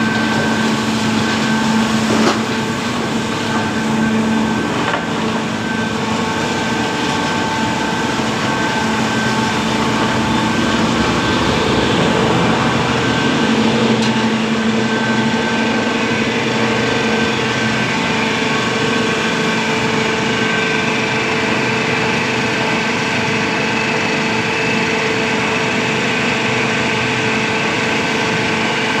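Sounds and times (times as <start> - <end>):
constant humming tones: 0.0 - 29.0
conveyor mechanical drone: 0.0 - 29.0.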